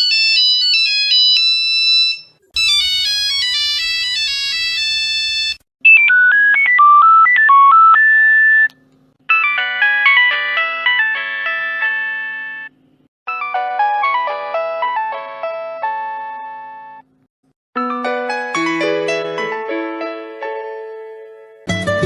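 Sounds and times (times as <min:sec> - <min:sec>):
phone ringtone melodies: 0:00.0 - 0:08.7, 0:09.3 - 0:17.0, 0:17.8 - 0:20.0.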